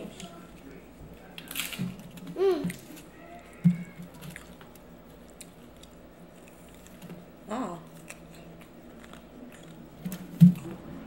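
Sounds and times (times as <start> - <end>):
taco crunching when chewed: 0.0 - 11.0.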